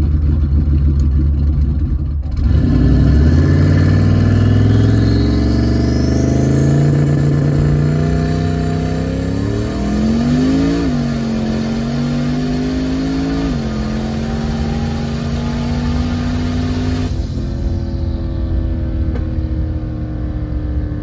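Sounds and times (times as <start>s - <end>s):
car engine revving and shifting: 2.2s - 21.0s.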